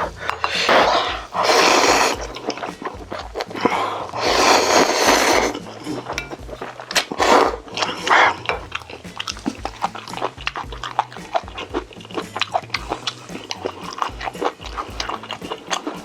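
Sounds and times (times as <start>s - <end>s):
low pulsing music: 0.0s - 16.0s
mouth chewing: 0.0s - 16.0s.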